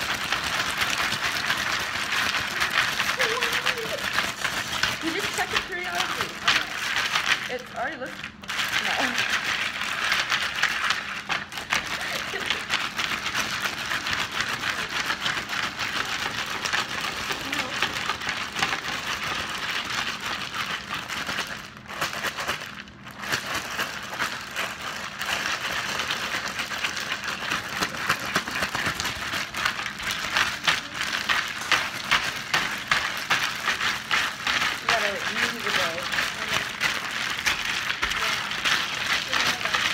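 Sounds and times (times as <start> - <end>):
ice rattling in plastic bag: 0.0 - 39.9.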